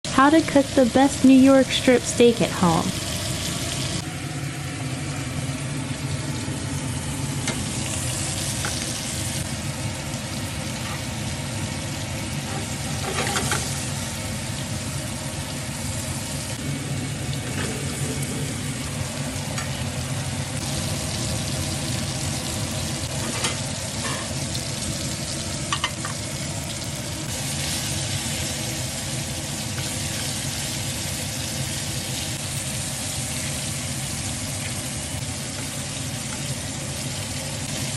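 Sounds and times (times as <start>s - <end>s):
steaks sizzling in a frying pan: 0.4s - 37.9s.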